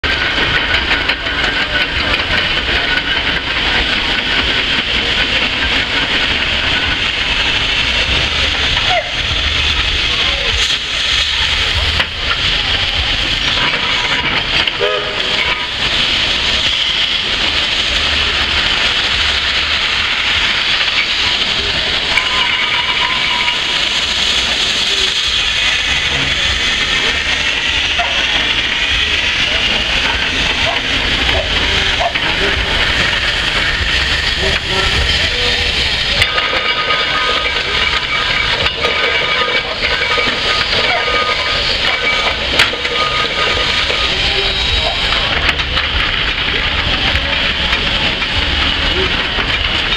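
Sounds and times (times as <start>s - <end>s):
steam shovel low rumble: 0.0s - 49.9s
hiss of escaping steam: 0.1s - 49.9s.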